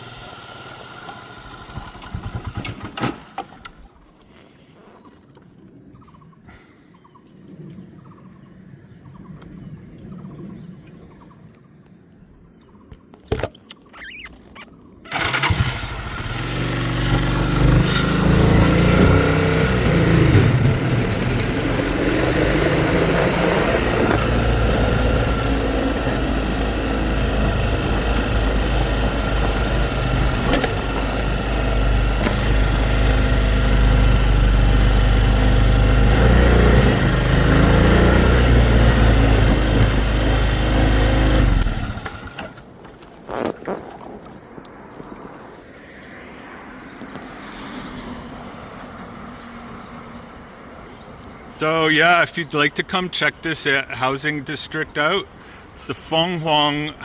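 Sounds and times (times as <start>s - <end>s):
vehicle engine and travel noise: 0.0s - 57.0s.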